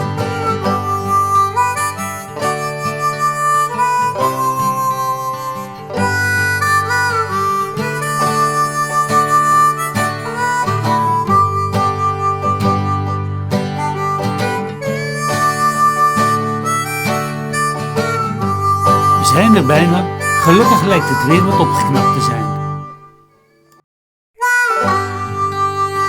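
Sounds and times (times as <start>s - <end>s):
acoustic guitar: 0.0s - 23.4s
harmonica melody: 0.0s - 23.8s, 24.4s - 26.0s.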